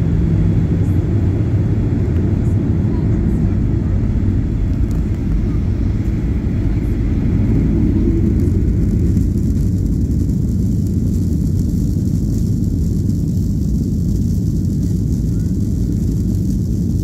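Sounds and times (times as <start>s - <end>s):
airplane cabin low rumble: 0.0s - 17.0s.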